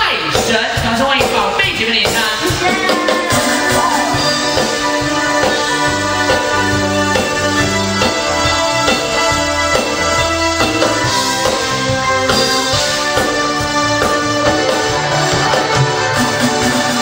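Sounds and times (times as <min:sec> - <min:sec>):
bass: 0:00.0 - 0:17.0
drum kit: 0:00.0 - 0:17.0
electric guitar: 0:02.3 - 0:17.0.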